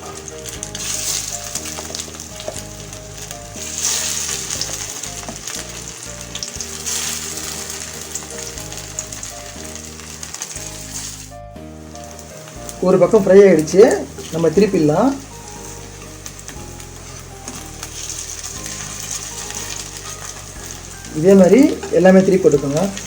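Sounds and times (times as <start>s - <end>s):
background music: 0.0s - 23.0s
food sizzling in hot oil: 0.0s - 23.0s.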